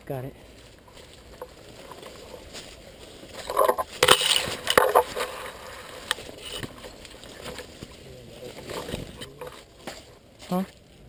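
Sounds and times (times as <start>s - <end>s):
rustling brush and twigs: 0.0s - 11.0s
twigs snapping: 0.8s - 10.8s.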